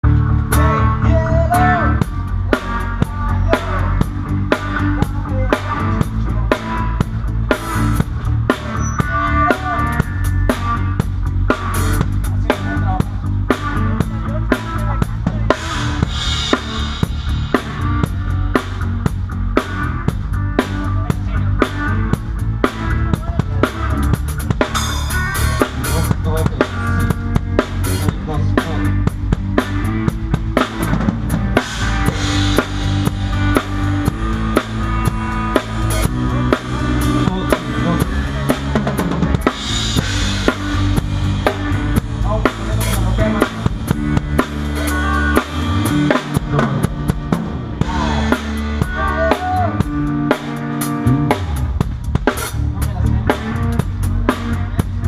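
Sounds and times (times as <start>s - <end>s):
drum kit playing a groove: 0.0s - 55.0s.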